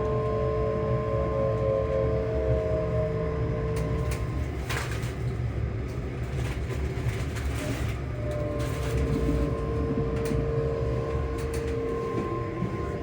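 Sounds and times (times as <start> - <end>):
low rumble of train wheels: 0.0 - 13.0
traction motors humming: 0.0 - 13.0.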